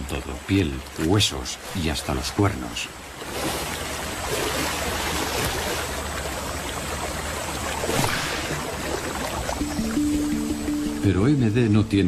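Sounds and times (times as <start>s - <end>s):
river water splashing and churning: 0.0s - 12.0s.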